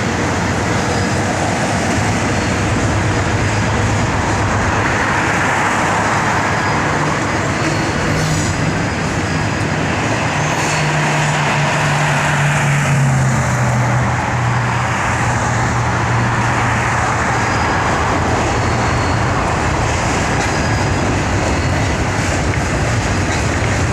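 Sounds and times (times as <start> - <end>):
low diesel drone: 0.0 - 23.9
train wheels rumbling on rail: 0.0 - 23.9.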